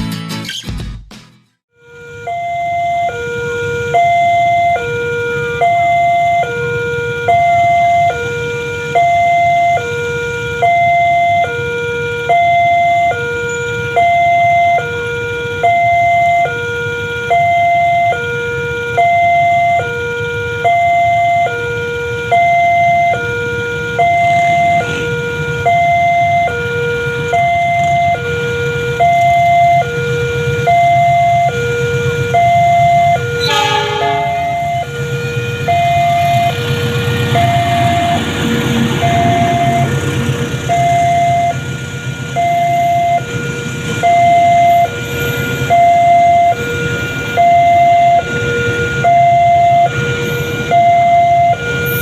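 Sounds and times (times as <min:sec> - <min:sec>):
two-tone crossing alarm: 0:01.7 - 0:52.0.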